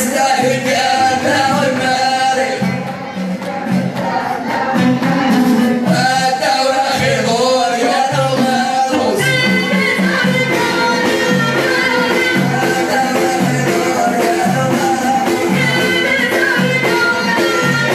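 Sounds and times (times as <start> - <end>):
frame drums beating: 0.0 - 17.9
men singing: 0.0 - 17.9.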